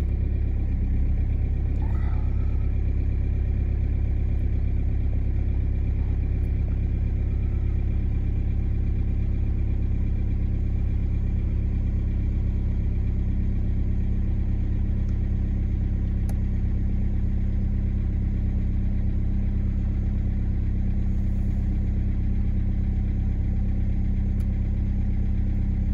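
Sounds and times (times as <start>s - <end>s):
diesel car engine idling: 0.0s - 25.9s.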